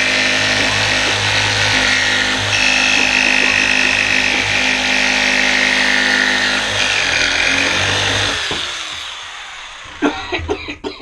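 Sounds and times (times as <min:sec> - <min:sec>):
jigsaw cutting plywood: 0:00.0 - 0:10.6.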